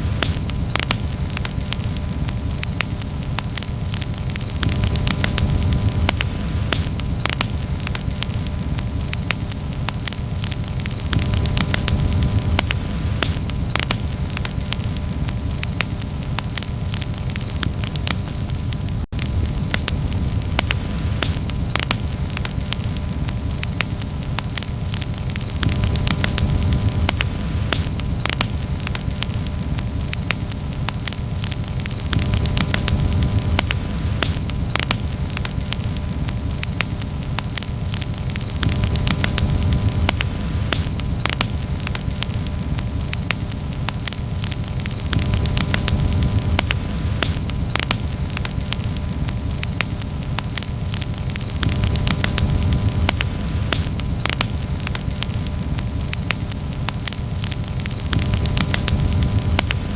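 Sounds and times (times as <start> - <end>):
campfire crackling and popping: 0.0 - 59.9
low fire rumble: 0.0 - 59.9.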